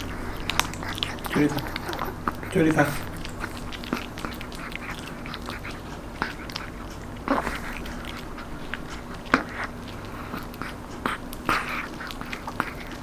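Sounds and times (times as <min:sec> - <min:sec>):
dog crunching a crispy treat: 0:00.0 - 0:13.0.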